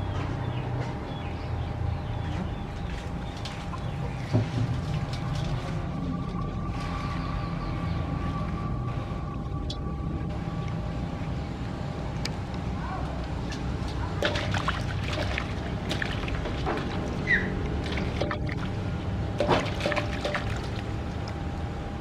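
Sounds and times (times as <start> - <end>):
water sloshing and splashing: 2.4 - 21.7
low rumble: 2.7 - 22.0.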